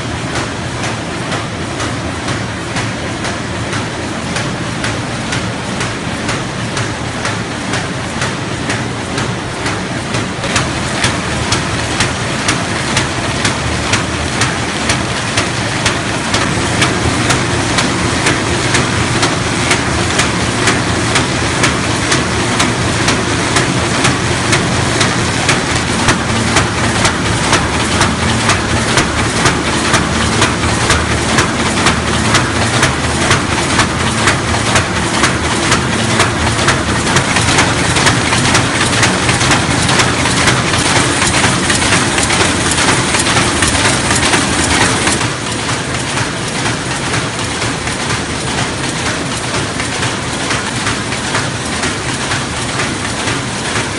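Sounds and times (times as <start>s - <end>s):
paper bag machine clattering: 8.6s - 53.9s.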